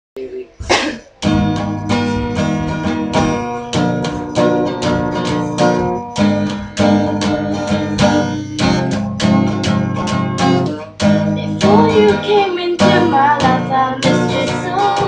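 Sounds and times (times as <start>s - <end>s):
acoustic guitar strumming chords: 0.7s - 15.0s.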